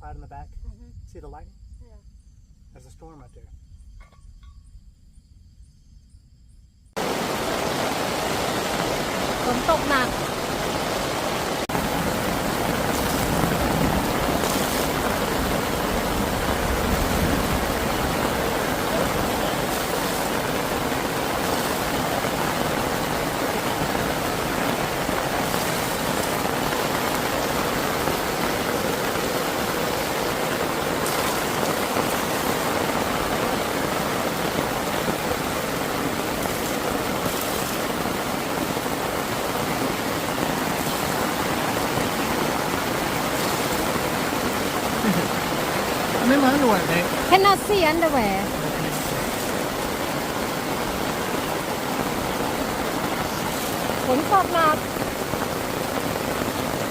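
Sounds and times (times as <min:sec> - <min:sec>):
heavy rain pouring: 0:07.0 - 0:56.9.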